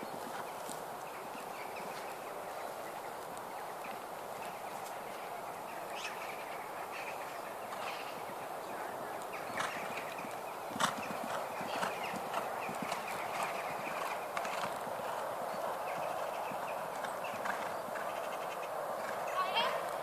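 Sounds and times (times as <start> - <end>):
horse hooves cantering on sand: 0.0 - 20.0
steady background noise: 0.0 - 20.0.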